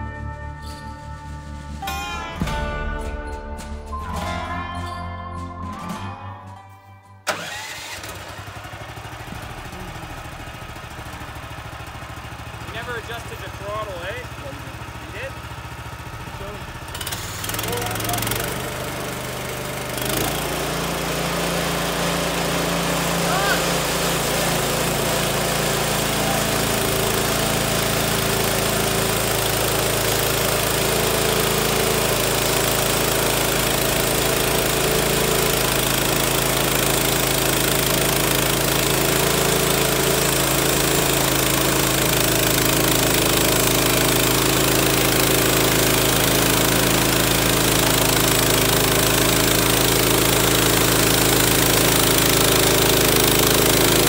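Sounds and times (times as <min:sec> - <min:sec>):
gasoline engine running: 0:00.0 - 0:54.0.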